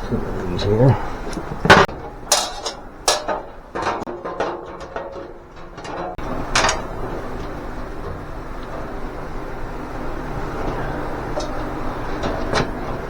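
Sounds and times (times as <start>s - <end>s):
sheet metal parts clanking: 0.0s - 13.0s.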